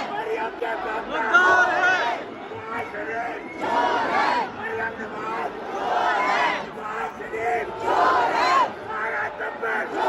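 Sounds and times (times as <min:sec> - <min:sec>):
crowd chanting a slogan: 0:00.0 - 0:10.0.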